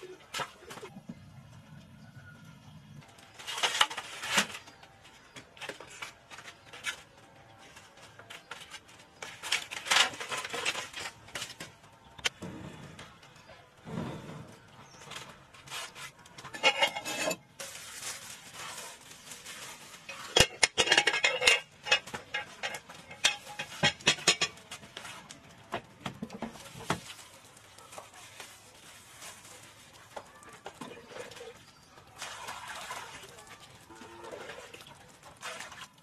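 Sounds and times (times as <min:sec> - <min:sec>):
metal pans and utensils clattering: 0:00.0 - 0:01.0, 0:03.2 - 0:36.0.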